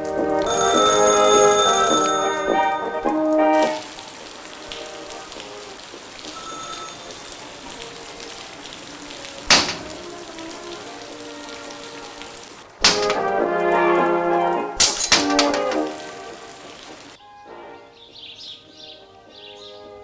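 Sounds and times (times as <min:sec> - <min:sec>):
steady rain falling: 0:00.0 - 0:17.2
background music: 0:00.0 - 0:20.0.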